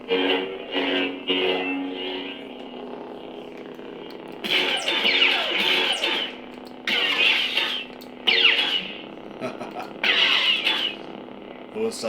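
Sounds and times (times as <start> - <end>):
low electronic hum: 0.0 - 12.0.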